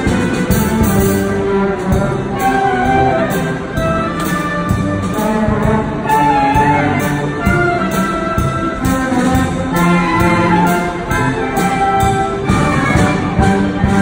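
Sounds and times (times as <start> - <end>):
military band playing: 0.0 - 14.0.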